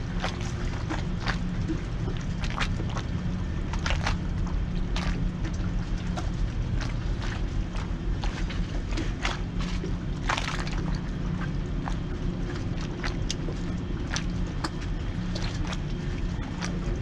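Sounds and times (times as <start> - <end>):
low hum: 0.0 - 17.0
water slapping boat hull: 0.0 - 17.0.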